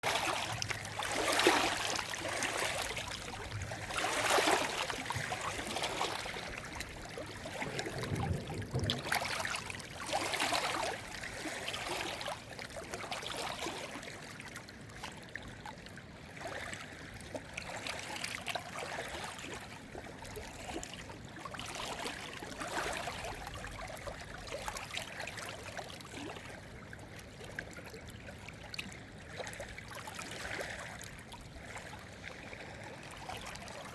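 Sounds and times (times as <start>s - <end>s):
stream trickling and gurgling: 0.0s - 33.9s.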